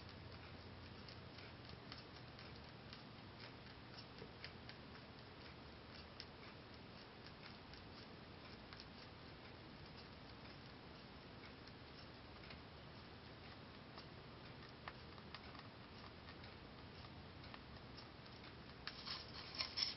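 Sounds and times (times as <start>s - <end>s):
rabbit chewing hay: 0.0s - 19.9s
steady low hiss: 0.0s - 19.9s.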